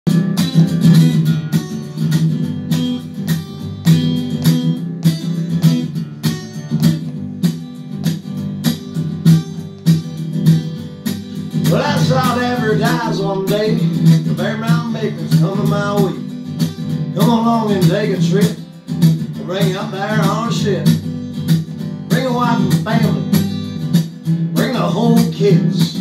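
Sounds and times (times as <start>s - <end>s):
acoustic guitar strumming: 0.1s - 26.0s.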